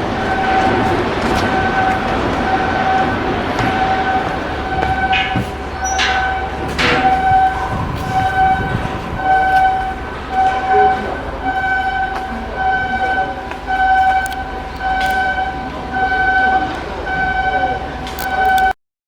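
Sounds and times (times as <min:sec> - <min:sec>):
low rumble: 0:00.0 - 0:17.2.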